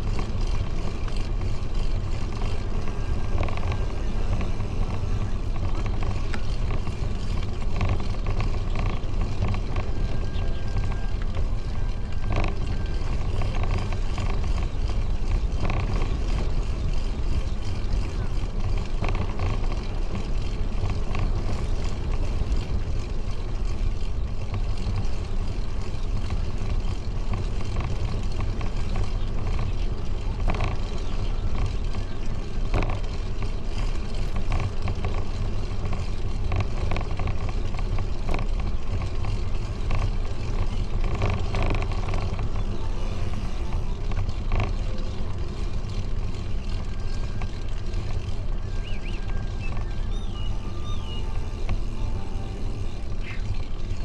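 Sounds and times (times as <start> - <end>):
bicycle tyres rolling on pavement: 0.0 - 54.0
faint clicks and rattles: 0.0 - 54.0.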